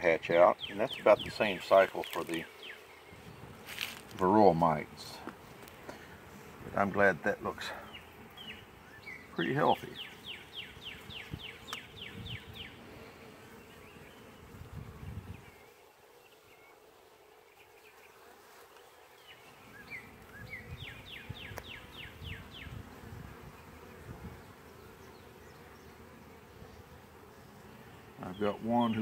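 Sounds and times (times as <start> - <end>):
honey bees buzzing: 0.0 - 29.0.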